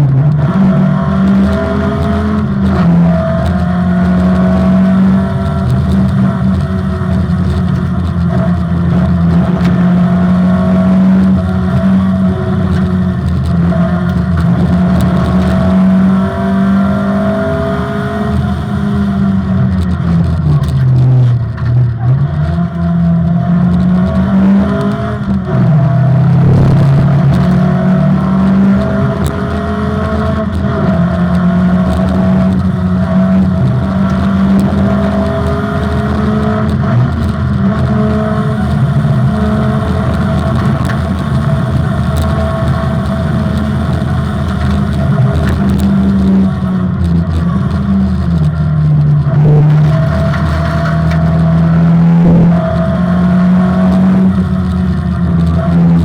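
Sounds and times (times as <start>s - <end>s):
rally car engine running hard: 0.0s - 56.0s.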